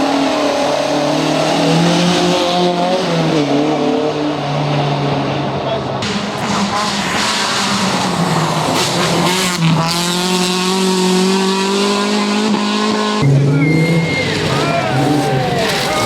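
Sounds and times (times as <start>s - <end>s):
rally car engine revving high: 0.0s - 16.0s.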